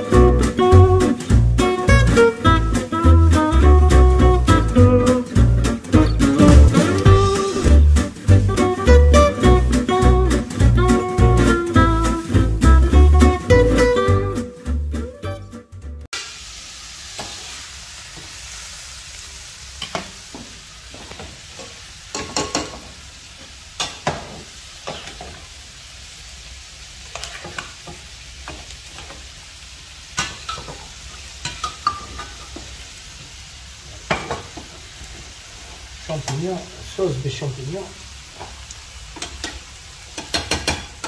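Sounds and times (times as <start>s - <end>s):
food sizzling in a pan: 0.0s - 15.1s, 16.1s - 41.0s.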